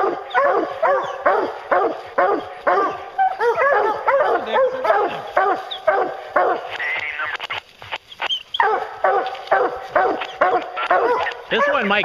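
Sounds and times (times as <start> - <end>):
hounds baying and barking: 0.0 - 7.2, 7.9 - 12.0.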